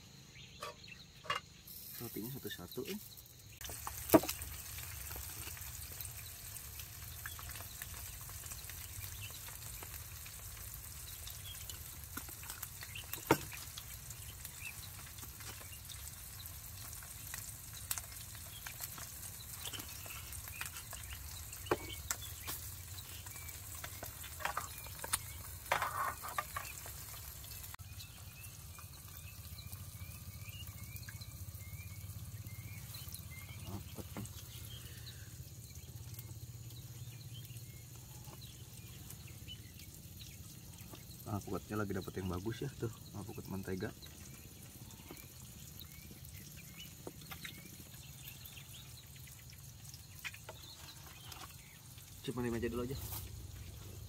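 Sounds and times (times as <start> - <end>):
food sizzling in a pan: 1.5 - 54.0.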